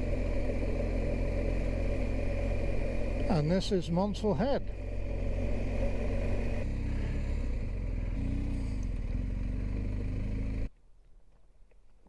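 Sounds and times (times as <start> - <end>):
motorcycle engine running: 0.0 - 10.7
wind and road noise: 0.0 - 10.7.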